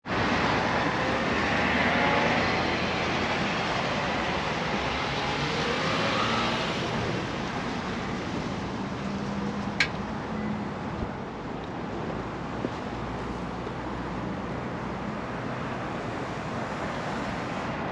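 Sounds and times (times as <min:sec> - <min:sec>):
vehicles passing: 0:00.0 - 0:17.9.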